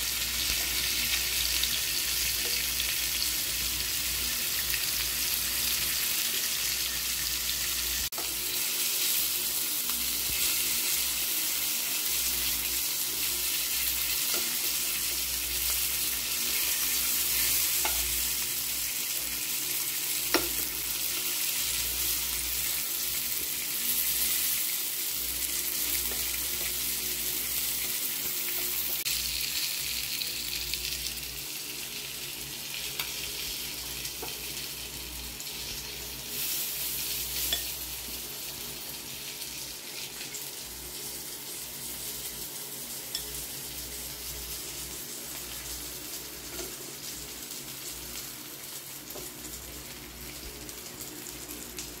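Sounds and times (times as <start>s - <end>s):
meat sizzling in a pan: 0.0s - 52.0s.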